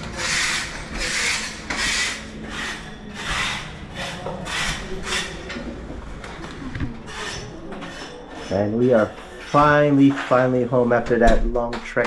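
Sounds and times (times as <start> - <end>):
hand scraping floor: 0.0 - 11.3.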